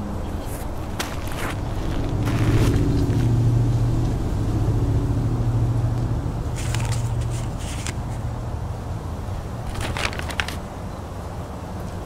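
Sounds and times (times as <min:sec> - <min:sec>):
low droning hum: 0:00.0 - 0:10.3.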